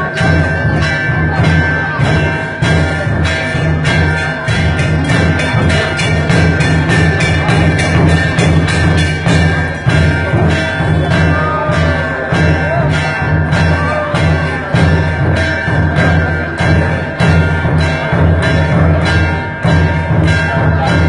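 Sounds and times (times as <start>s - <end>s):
steady percussion beat: 0.0s - 21.0s.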